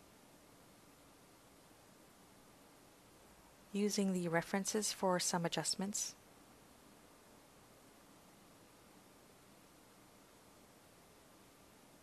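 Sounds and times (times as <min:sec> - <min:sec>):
faint background hiss: 0:00.0 - 0:12.0.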